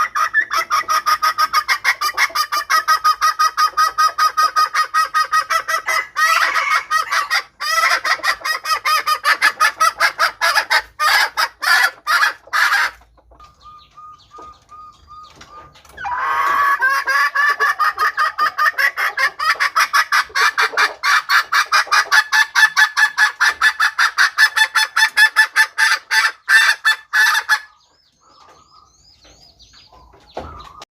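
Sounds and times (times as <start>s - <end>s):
hen cackling: 0.0s - 14.0s, 15.8s - 28.9s.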